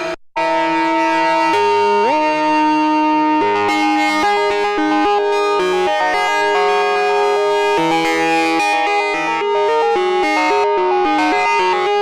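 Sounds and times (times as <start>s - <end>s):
modular synthesizer melody: 0.0s - 12.0s.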